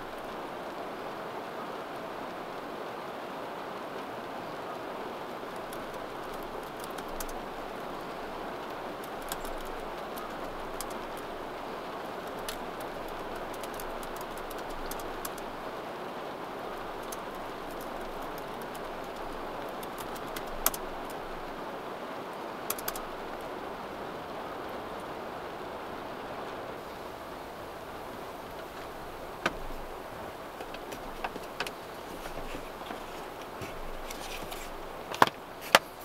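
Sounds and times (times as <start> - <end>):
light ticks of raindrops: 0.0 - 36.0
rain on a car roof: 0.0 - 36.0.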